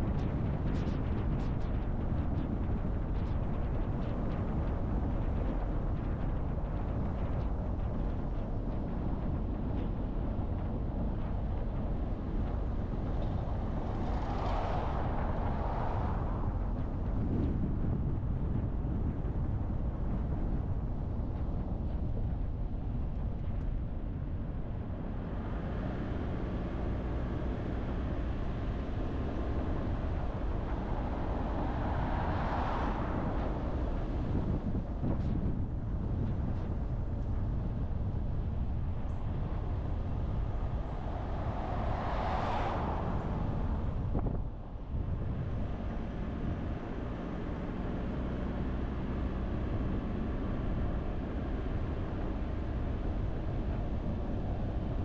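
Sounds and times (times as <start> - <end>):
car tyre and road noise: 0.0 - 55.0.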